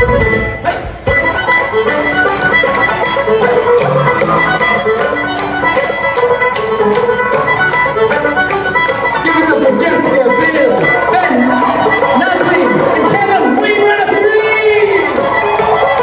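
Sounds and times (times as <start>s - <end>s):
banjo: 0.0s - 16.0s
fiddle playing tune: 0.0s - 16.0s
guitar strumming: 0.0s - 16.0s
steady beat: 0.0s - 16.0s.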